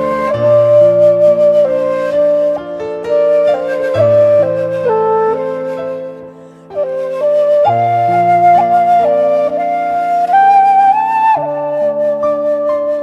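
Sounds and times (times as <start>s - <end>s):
flute-like melody: 0.0s - 13.0s.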